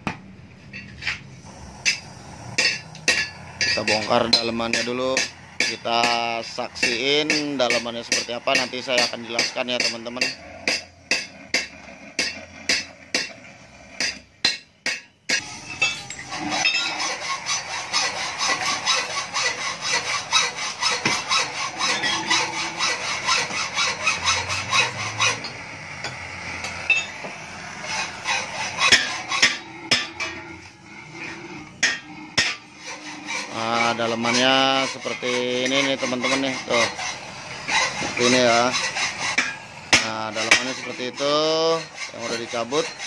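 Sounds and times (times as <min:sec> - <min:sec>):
fast rasping strokes on metal: 0:01.8 - 0:43.0.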